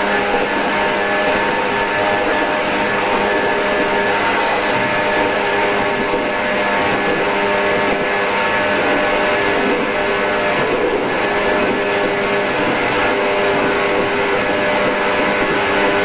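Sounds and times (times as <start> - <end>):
train motors humming and whining: 0.0 - 16.0
wheel and track rumble: 0.0 - 16.0.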